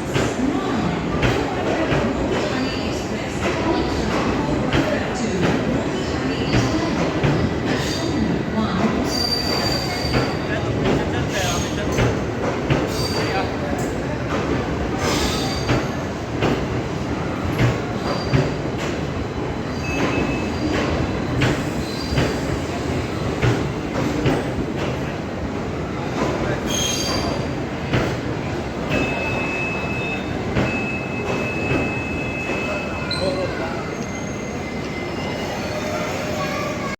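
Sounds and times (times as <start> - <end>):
train rumbling on rails: 0.0 - 36.9.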